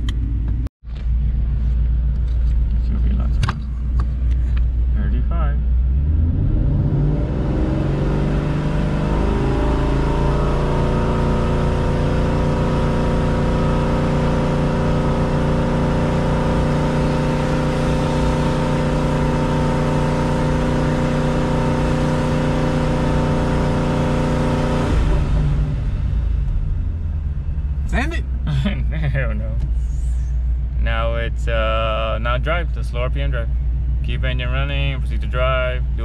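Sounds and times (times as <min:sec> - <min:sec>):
car engine revving: 0:01.2 - 0:36.0.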